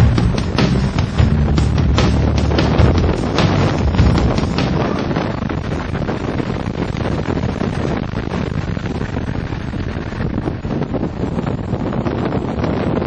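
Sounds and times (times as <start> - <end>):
in-cabin wind and road noise: 0.0 - 13.0.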